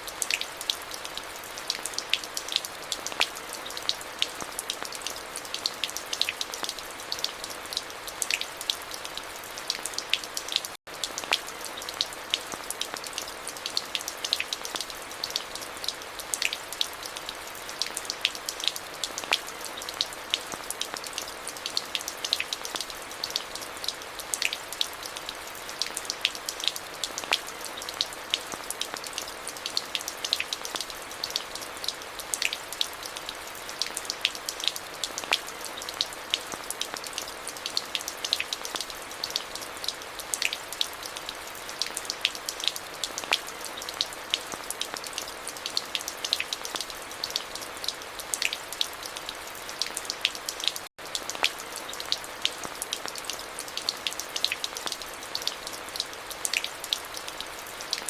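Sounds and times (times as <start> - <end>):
steady rain falling: 0.0 - 58.0
raindrops ticking: 0.1 - 58.0.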